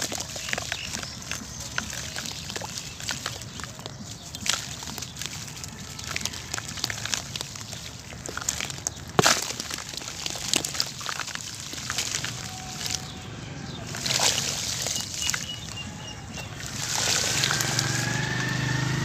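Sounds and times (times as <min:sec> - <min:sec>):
sand falling into plastic bucket: 0:00.0 - 0:18.8
cement chunks crunching: 0:00.0 - 0:19.0
sharp crack: 0:01.3 - 0:19.0.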